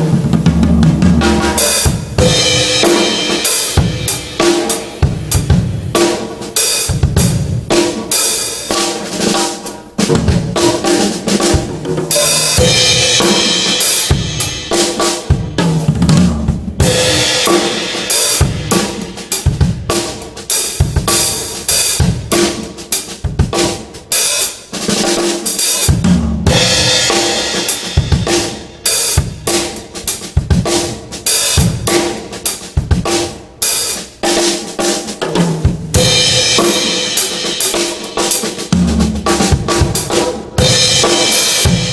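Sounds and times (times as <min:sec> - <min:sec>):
drum kit steady beat: 0:00.0 - 0:41.9.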